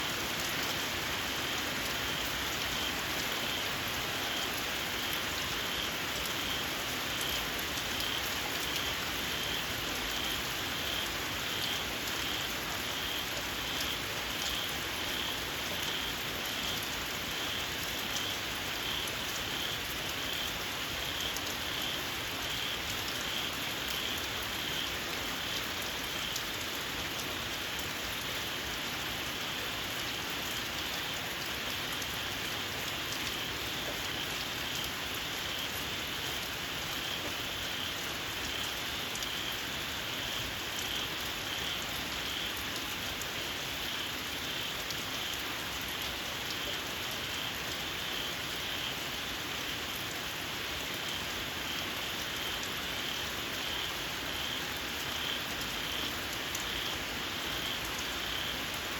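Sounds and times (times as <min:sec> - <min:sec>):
rain falling on a field: 0:00.0 - 0:58.9.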